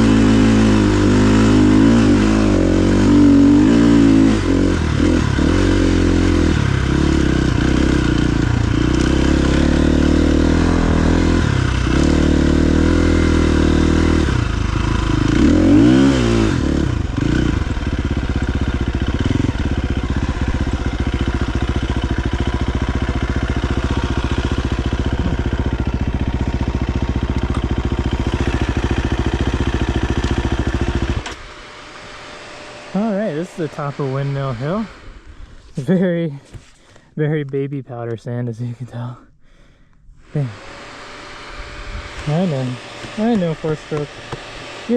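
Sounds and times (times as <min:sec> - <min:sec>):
motorcycle engine revving: 0:00.0 - 0:36.1, 0:40.2 - 0:44.9.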